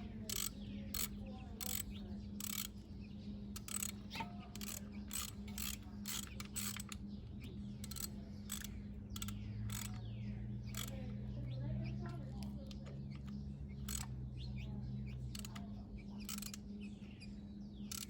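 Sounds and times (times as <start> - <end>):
socket ratchet clicking: 0.0 - 2.9, 3.5 - 11.2, 12.1 - 16.8, 17.8 - 18.0.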